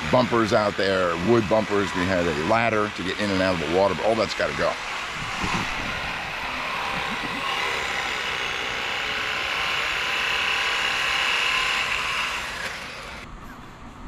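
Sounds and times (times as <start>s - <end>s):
power cutting tool cutting metal: 0.0s - 13.3s.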